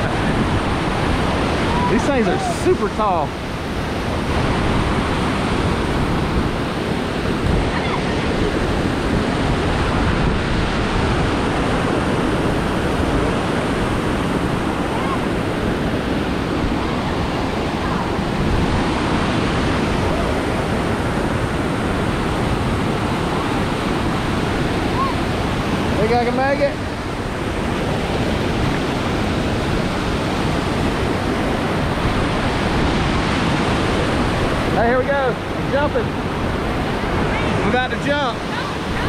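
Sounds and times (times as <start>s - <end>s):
waterfall roaring: 0.0s - 39.0s.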